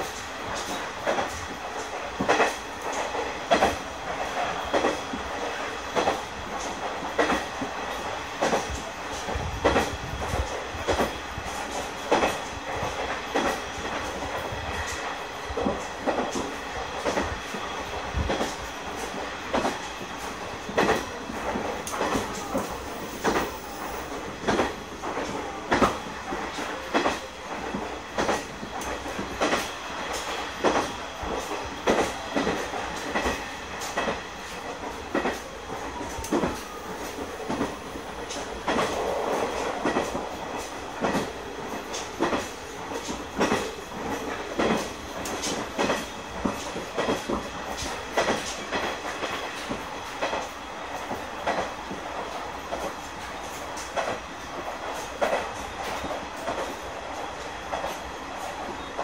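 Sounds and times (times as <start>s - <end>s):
railcar running noise: 0.0s - 59.0s.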